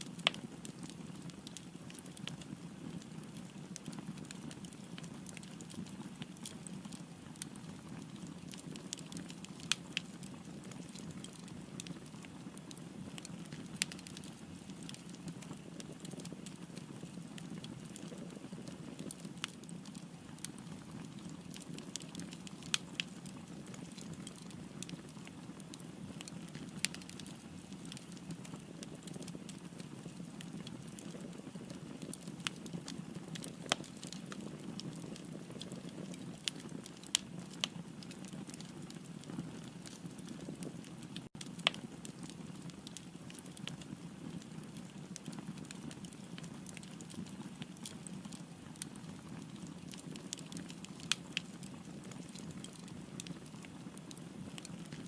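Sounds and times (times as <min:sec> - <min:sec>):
fire crackling and popping: 0:00.0 - 0:55.0
wood fire burning: 0:00.0 - 0:55.0.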